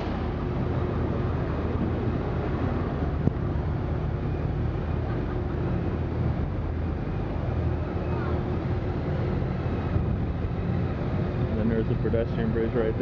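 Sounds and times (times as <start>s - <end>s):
ship engines humming: 0.0s - 13.0s.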